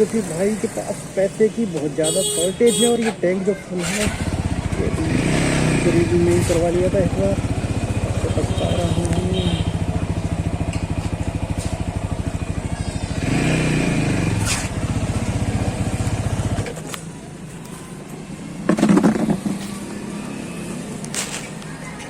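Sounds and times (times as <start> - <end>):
motorcycle engine running: 0.0 - 2.8, 3.7 - 22.0.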